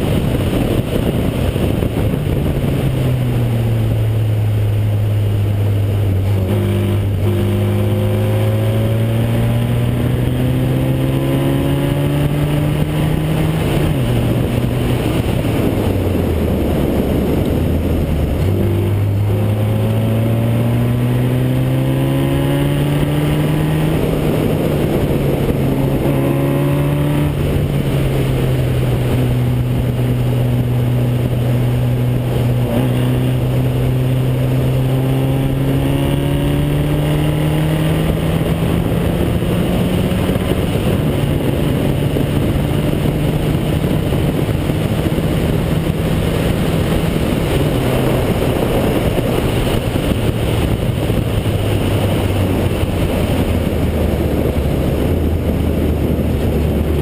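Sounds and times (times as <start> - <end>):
race car engine: 0.0 - 57.0
wind and tyre noise: 0.0 - 57.0.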